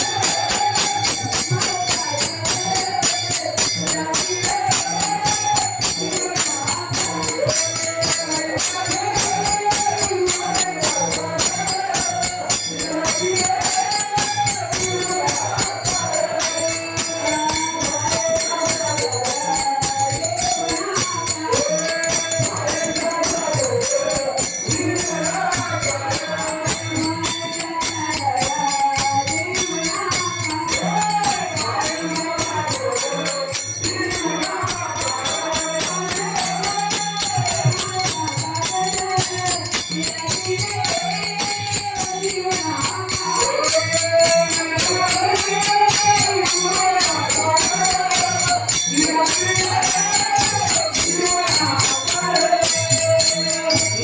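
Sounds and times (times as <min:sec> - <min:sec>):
drum beat: 0:00.0 - 0:54.0
hand cymbals jingling: 0:00.0 - 0:54.0
voices singing devotional melody: 0:00.0 - 0:54.0.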